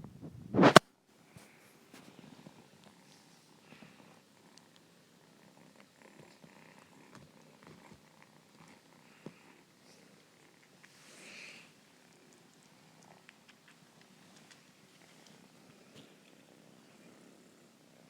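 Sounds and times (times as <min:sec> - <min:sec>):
kitten purring: 0:00.0 - 0:00.8, 0:02.1 - 0:18.0.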